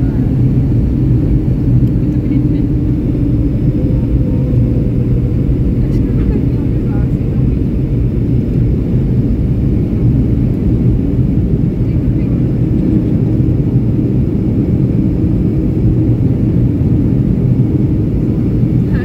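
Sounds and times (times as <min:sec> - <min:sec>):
jet engines rumbling: 0:00.0 - 0:19.0
rushing air: 0:00.0 - 0:19.0.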